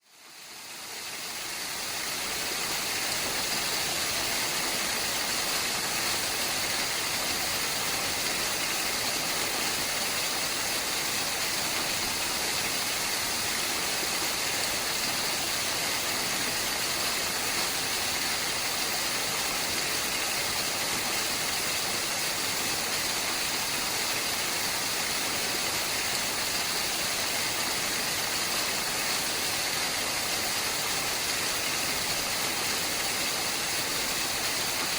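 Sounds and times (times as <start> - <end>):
waterfall rushing: 0.3 - 34.9.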